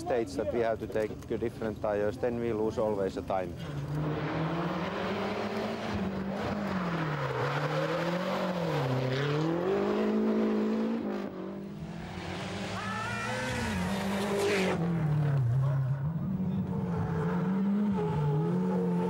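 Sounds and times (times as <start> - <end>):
rally car engines revving: 3.2 - 19.0.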